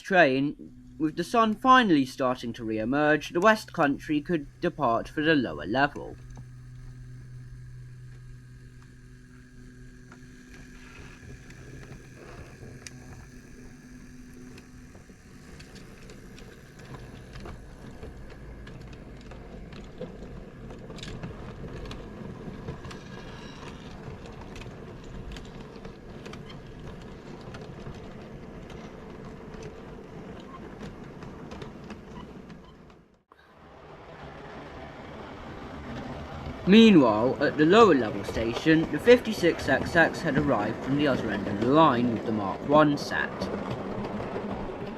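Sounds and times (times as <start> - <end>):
wheel clicks on track: 0.0 - 33.2, 34.1 - 44.9
model train motor hum: 0.0 - 44.9
model train running rumble: 0.0 - 44.9.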